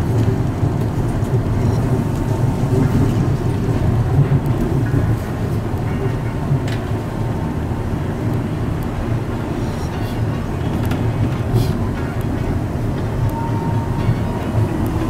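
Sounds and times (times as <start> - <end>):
train running low rumble: 0.0 - 15.0.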